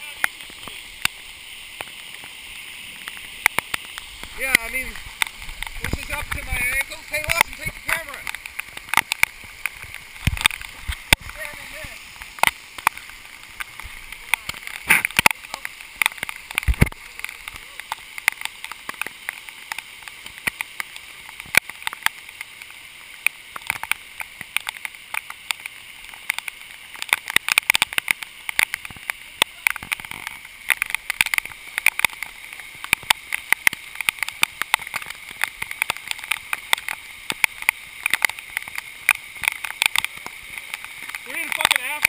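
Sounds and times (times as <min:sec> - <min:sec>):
hiss of downpour: 0:00.0 - 0:42.0
rain tapping on camera: 0:00.0 - 0:42.0
running floodwater: 0:00.0 - 0:42.0.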